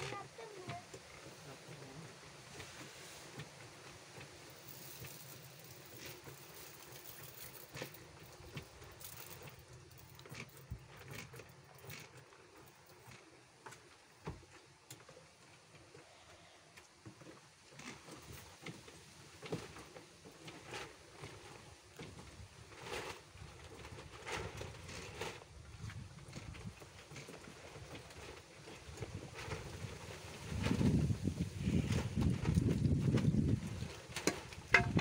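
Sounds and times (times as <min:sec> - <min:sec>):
rustling: 0:00.0 - 0:13.4, 0:17.8 - 0:35.0.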